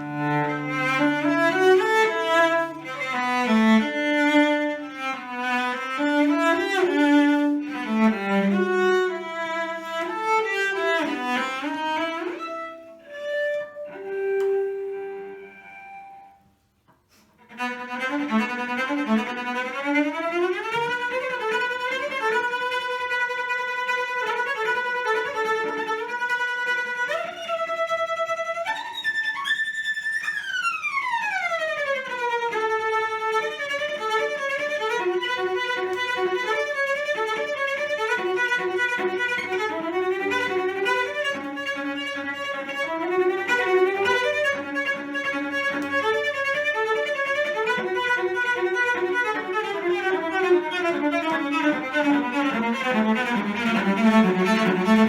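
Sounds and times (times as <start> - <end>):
violin melody: 0.0 - 16.6, 17.4 - 55.0.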